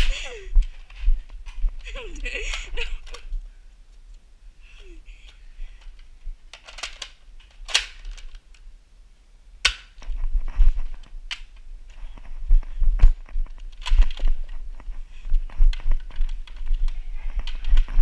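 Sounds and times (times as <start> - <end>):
rustling and handling noise: 0.0 - 8.8, 9.7 - 18.0.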